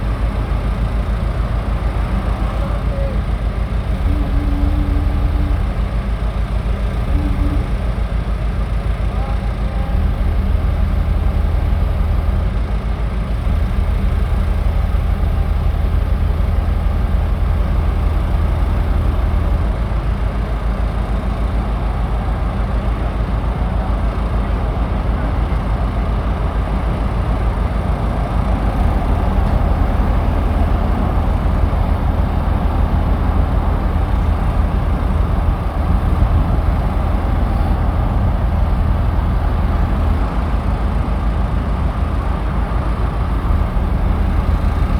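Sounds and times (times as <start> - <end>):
large engine rumbling: 0.0 - 44.9.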